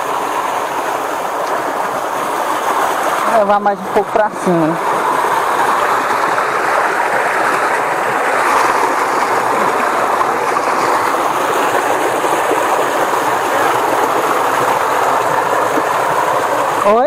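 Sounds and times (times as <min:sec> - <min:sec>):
water rushing down cascade: 0:00.0 - 0:17.0.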